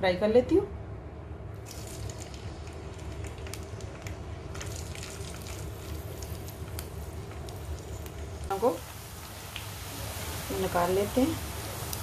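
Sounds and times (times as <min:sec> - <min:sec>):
steady low hum: 0:00.0 - 0:12.0
vegetables sizzling in hot oil: 0:01.6 - 0:12.0.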